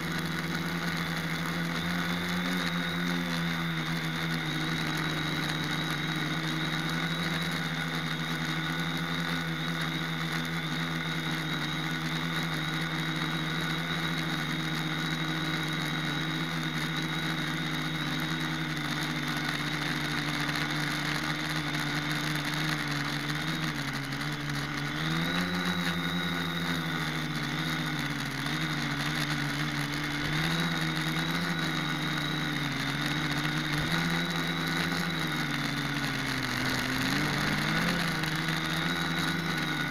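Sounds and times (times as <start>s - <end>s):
quadcopter motors whining hum: 0.0s - 39.9s.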